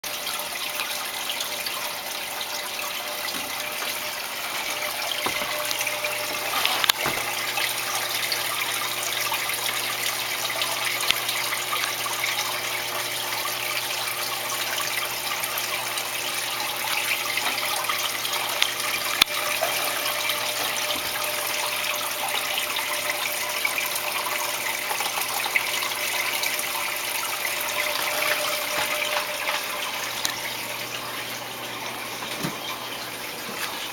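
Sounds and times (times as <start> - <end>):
water splashing from aquarium filter: 0.0 - 33.9.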